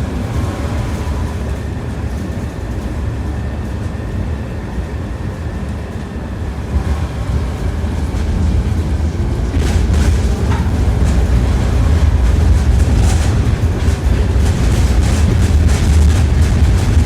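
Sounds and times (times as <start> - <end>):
tram wheels rumbling on track: 0.0 - 17.0.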